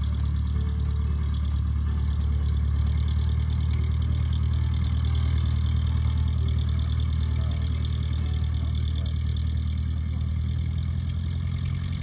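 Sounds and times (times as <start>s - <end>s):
light aircraft engine taxiing: 0.0s - 12.0s.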